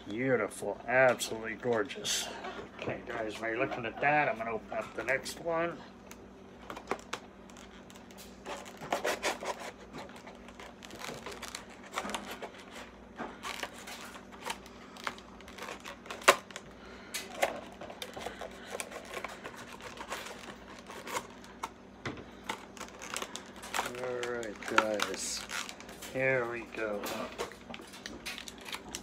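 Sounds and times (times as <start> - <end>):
plastic packaging crackling: 4.9 - 29.0.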